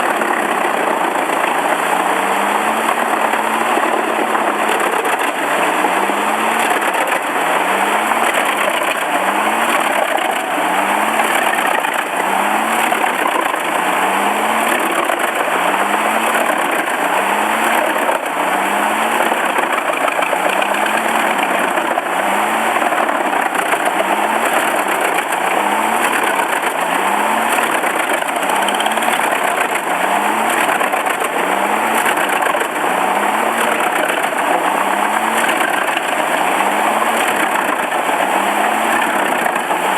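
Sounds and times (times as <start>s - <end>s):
wood-processing machine engine running: 0.0s - 39.9s.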